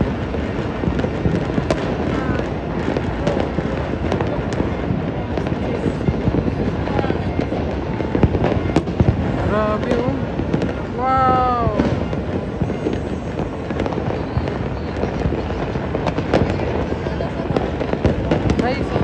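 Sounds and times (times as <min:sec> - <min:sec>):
fireworks crackling: 0:00.0 - 0:19.0
sharp firework bang: 0:00.0 - 0:19.0.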